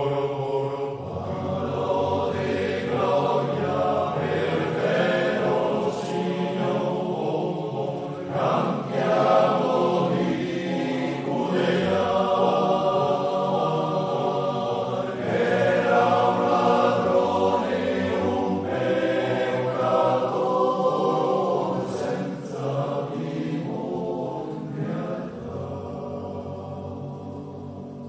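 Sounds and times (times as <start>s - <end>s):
male voice choir singing: 0.0s - 28.0s.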